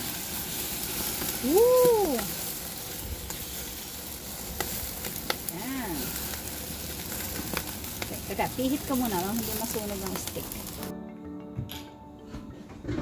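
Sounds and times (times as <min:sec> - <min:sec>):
fat dripping onto fire: 0:00.0 - 0:10.9
meat sizzling over grill flames: 0:00.0 - 0:11.0.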